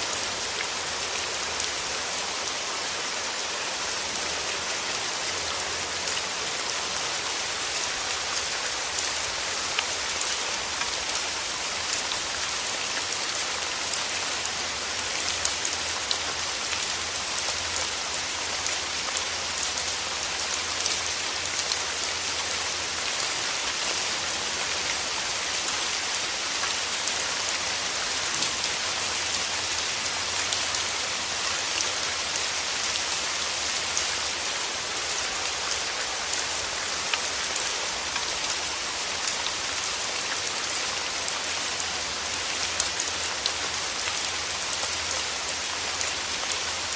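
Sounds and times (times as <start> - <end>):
rain falling in a forest: 0.0 - 46.9.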